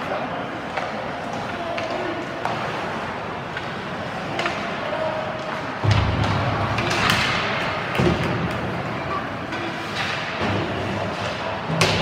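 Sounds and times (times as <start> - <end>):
rink crowd hubbub: 0.0 - 12.0
hockey sticks and puck clacking: 0.6 - 12.0.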